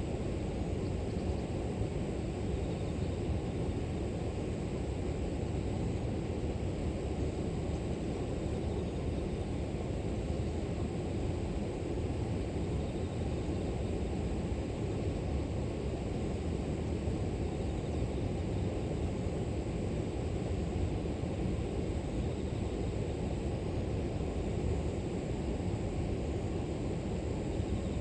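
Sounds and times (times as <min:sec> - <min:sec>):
insects humming in grass: 0:00.0 - 0:28.0.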